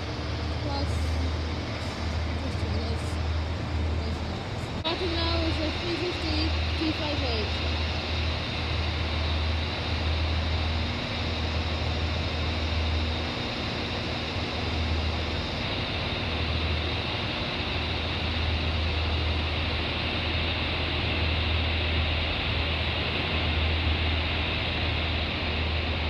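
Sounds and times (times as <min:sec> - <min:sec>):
electric train hum and rumble: 0:00.0 - 0:26.0.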